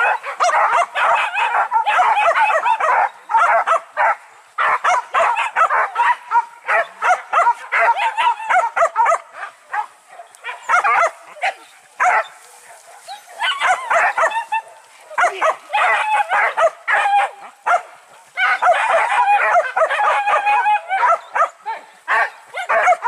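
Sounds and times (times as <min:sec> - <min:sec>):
dogs barking and yelping: 0:00.0 - 0:23.0.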